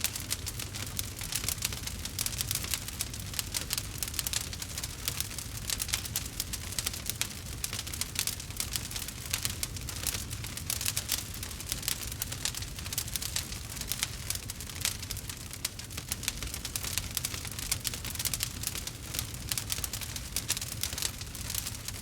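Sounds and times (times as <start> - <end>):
burning wood crackling: 0.0 - 22.0
low rumble of flame: 0.0 - 22.0.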